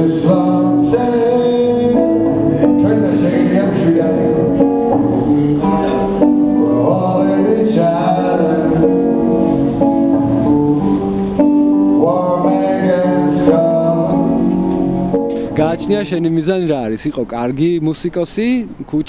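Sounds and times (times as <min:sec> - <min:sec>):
person singing: 0:00.0 - 0:16.3
guitar music: 0:00.0 - 0:16.9.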